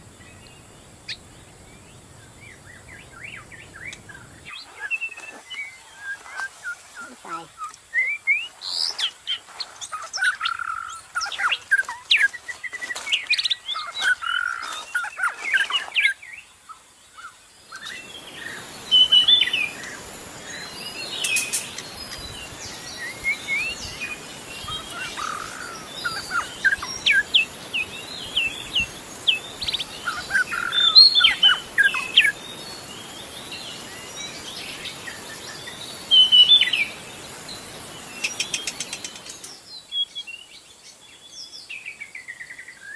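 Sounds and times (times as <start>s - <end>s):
steady hiss with thin drone: 0.0s - 42.9s.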